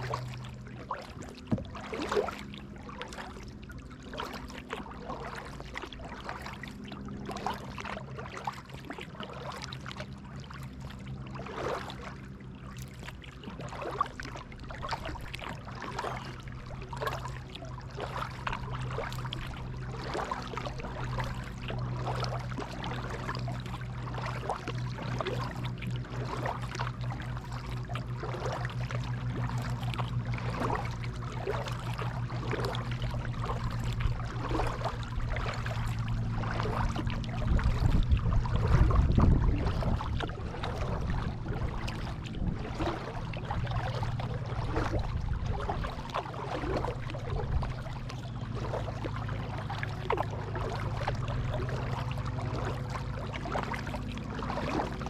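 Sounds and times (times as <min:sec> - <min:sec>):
kayak paddle splashing water: 0:00.0 - 0:55.0
steady low hum: 0:00.0 - 0:55.0
water trickling from paddle: 0:00.0 - 0:55.0.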